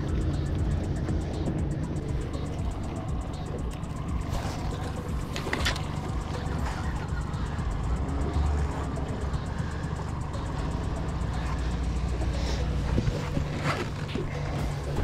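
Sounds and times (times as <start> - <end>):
boat motor running: 0.0 - 15.0
steady rushing noise: 0.0 - 15.0.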